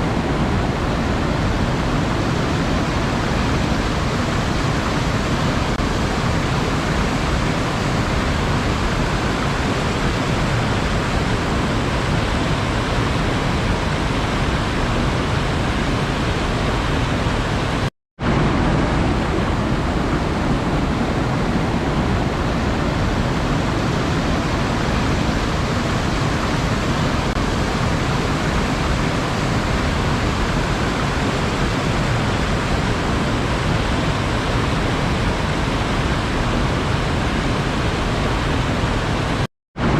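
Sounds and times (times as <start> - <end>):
sea water rushing: 0.0 - 39.9.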